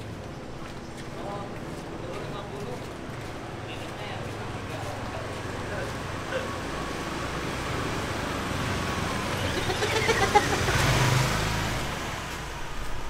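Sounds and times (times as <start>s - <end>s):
motorbikes riding past: 1.2s - 13.0s.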